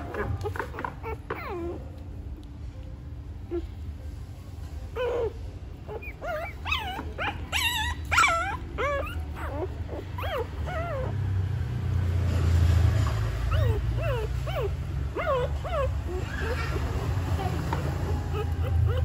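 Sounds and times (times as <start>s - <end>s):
puppies whimpering: 0.0s - 2.4s, 3.4s - 4.0s, 4.6s - 19.0s.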